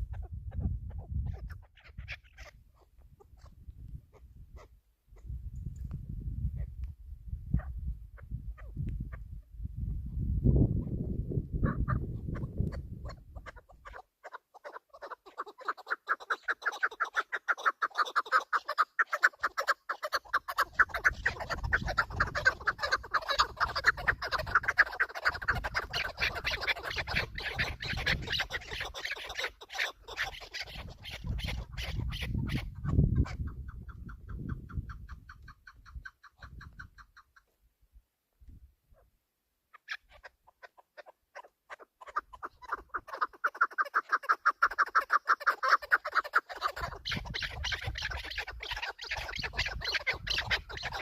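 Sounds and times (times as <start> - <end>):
partridge clucking calls: 0.0 - 5.3, 7.6 - 9.4, 11.5 - 37.6, 39.7 - 51.0.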